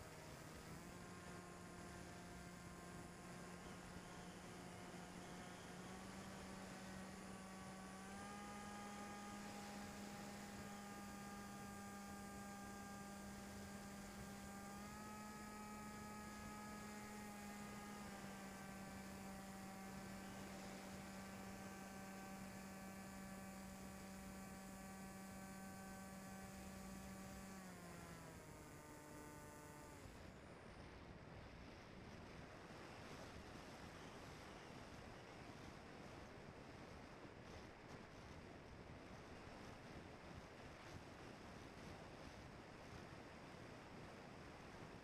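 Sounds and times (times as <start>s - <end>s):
electric motor and propeller hum: 0.0s - 36.4s.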